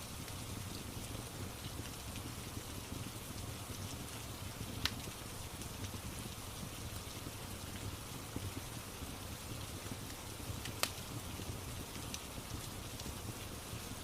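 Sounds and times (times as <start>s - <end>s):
steady rain falling: 0.0s - 14.0s
wood fire crackling and popping: 0.0s - 14.0s.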